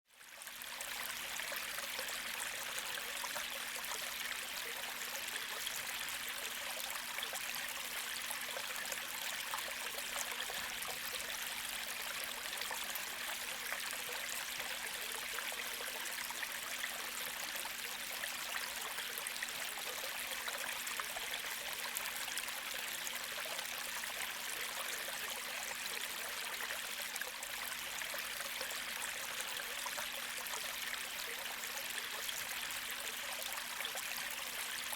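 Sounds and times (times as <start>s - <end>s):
creek flowing and trickling: 0.1s - 34.9s.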